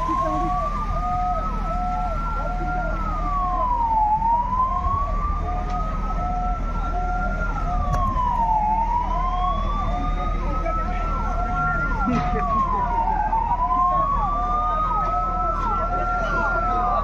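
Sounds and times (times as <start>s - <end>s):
low engine hum: 0.0s - 17.0s
siren slow wail: 0.0s - 17.0s.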